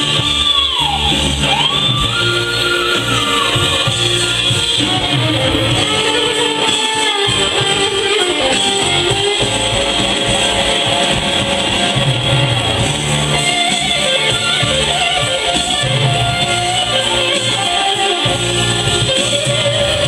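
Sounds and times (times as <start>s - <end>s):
rock music over loudspeakers: 0.0s - 20.0s.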